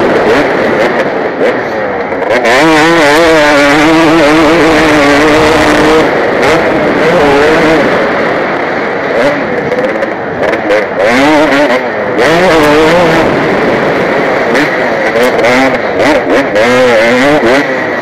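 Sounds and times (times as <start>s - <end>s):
wind rush on microphone: 0.0s - 16.6s
motocross bike engine revving: 0.0s - 18.0s.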